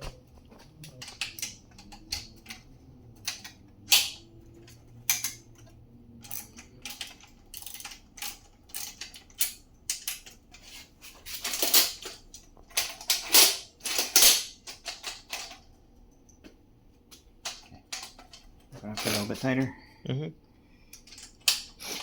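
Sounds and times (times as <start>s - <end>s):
tools and parts clicking and clanking: 0.0s - 19.8s, 20.8s - 22.0s.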